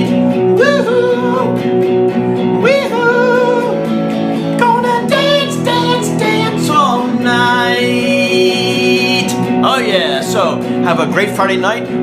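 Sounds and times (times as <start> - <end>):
person singing: 0.0 - 10.6
strummed acoustic guitar: 0.0 - 12.0.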